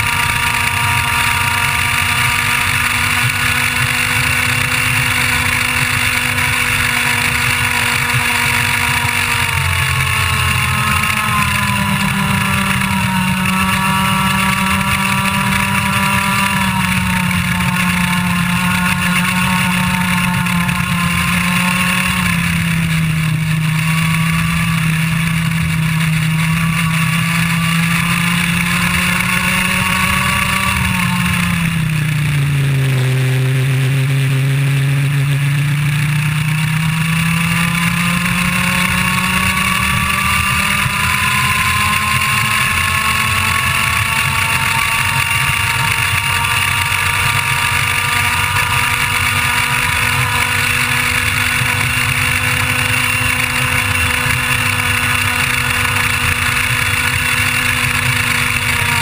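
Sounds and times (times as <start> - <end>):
kart engine at high revs: 0.0 - 59.0.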